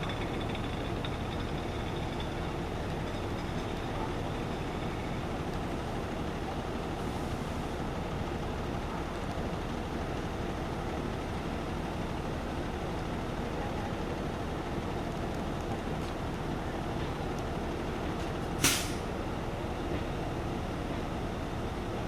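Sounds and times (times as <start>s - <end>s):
fire truck engine idling: 0.0s - 22.0s.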